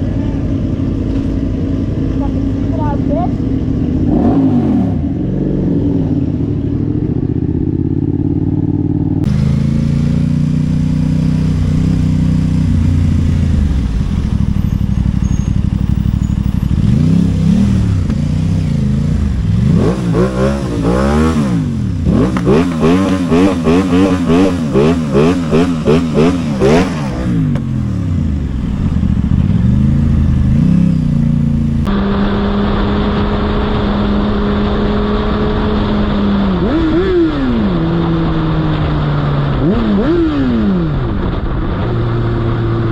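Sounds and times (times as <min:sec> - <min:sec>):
motorcycle engine revving: 0:00.0 - 0:42.9
motorcycle engines running: 0:00.0 - 0:42.9.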